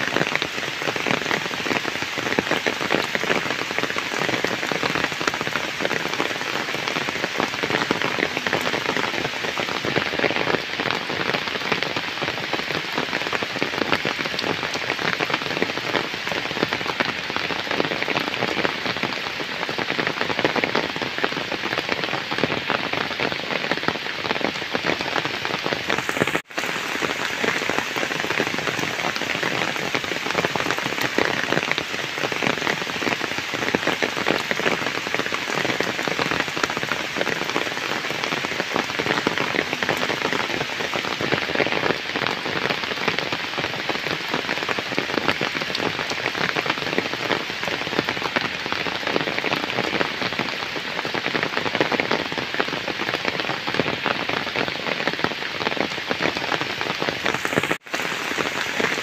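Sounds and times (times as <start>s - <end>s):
heavy rain on puddles: 0.0s - 59.0s.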